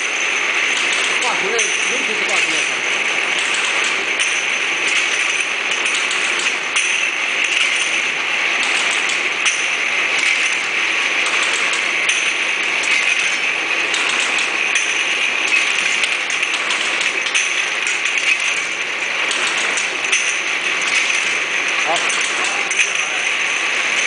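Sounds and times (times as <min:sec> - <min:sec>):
bottling machine running: 0:00.0 - 0:24.0.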